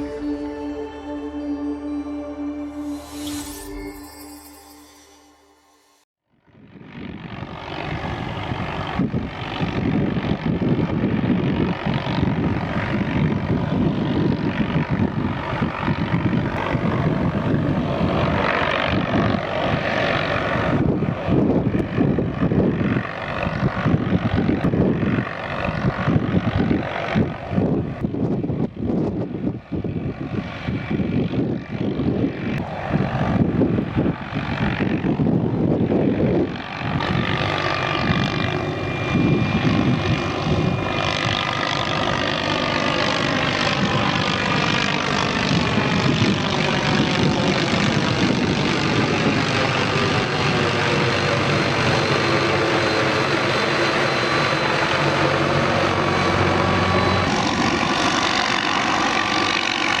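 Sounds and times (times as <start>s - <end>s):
helicopter engine whine: 0.0s - 60.0s
helicopter rotor beating: 2.4s - 60.0s.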